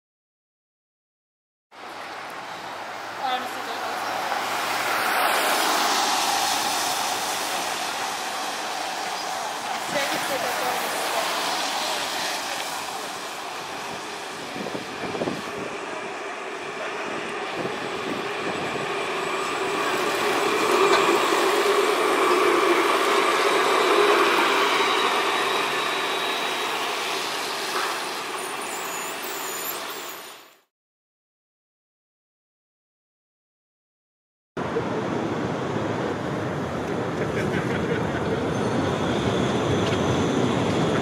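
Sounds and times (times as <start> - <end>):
street traffic noise: 1.7 - 30.7, 34.6 - 41.0
tram passing with electric whine: 1.8 - 30.7, 34.6 - 41.0.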